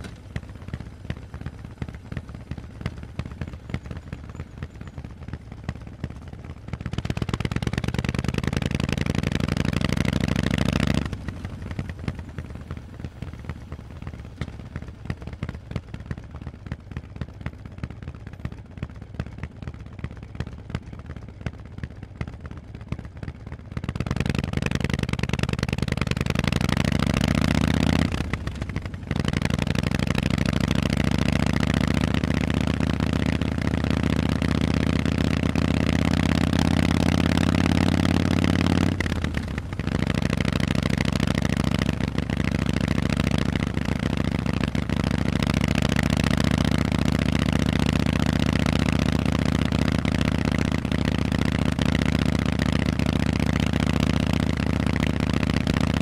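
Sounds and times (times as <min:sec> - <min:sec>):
motorcycle engine revving: 0:00.0 - 0:18.1, 0:23.0 - 0:56.0.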